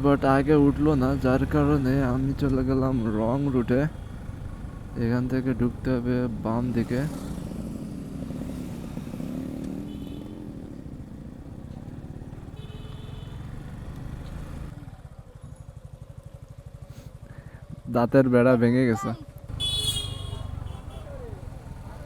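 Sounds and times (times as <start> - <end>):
motorcycle engine running: 0.0 - 17.9, 19.3 - 22.0.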